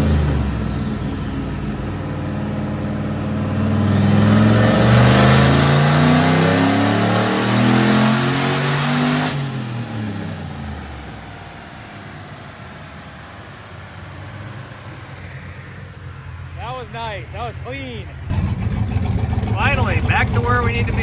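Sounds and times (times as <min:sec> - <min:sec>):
truck engine full-throttle revving: 0:00.0 - 0:21.0.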